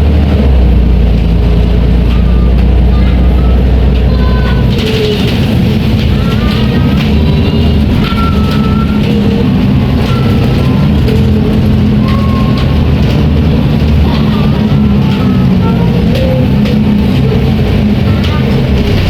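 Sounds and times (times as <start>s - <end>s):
bus engine droning: 0.0s - 19.0s
high squeaks: 2.1s - 19.0s.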